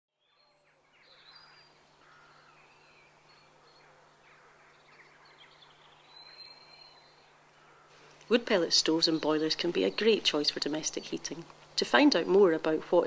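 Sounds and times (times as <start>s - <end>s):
distant birds chirping: 0.1s - 13.0s
low steady hum: 0.4s - 13.0s.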